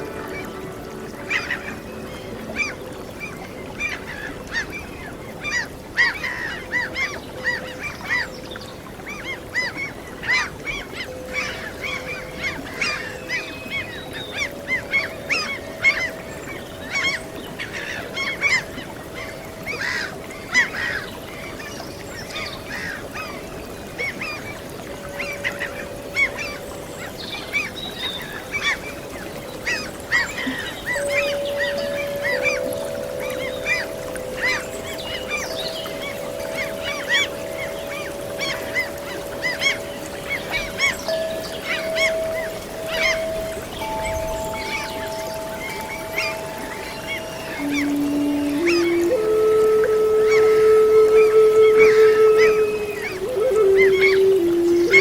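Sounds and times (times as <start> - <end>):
soft held musical notes: 0.0 - 5.5, 10.0 - 55.0
gulls calling: 0.0 - 55.0.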